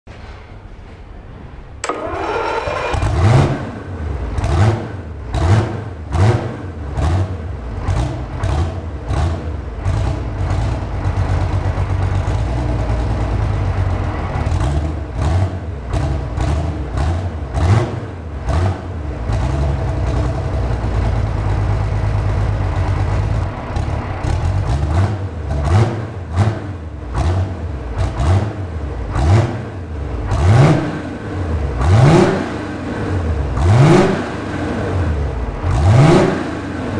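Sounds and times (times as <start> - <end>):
diesel engine revving: 1.3 - 36.9.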